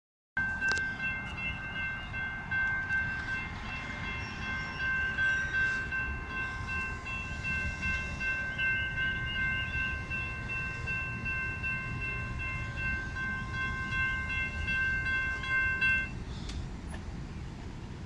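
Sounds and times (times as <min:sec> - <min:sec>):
crossing bell ringing tones: 0:00.4 - 0:16.2
freight train rumbling: 0:00.4 - 0:18.0.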